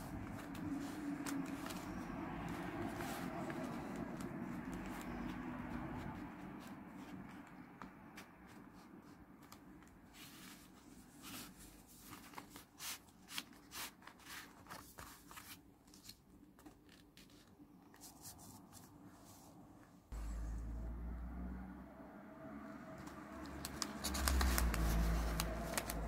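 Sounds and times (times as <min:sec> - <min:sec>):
paper rustling: 0:00.0 - 0:19.5, 0:23.1 - 0:26.0.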